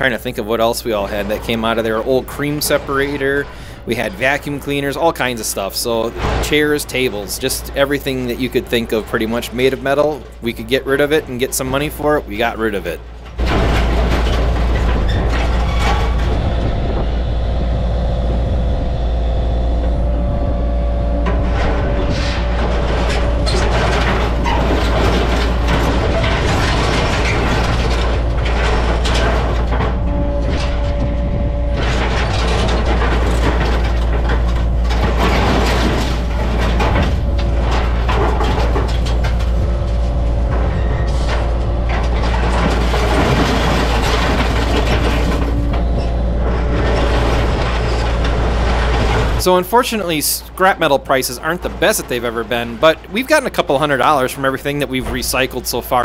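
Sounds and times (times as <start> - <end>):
metal sheets scraping and clattering: 0.0 - 17.7, 21.1 - 56.0
diesel engine running: 0.0 - 56.0
hydraulic whine: 0.0 - 56.0.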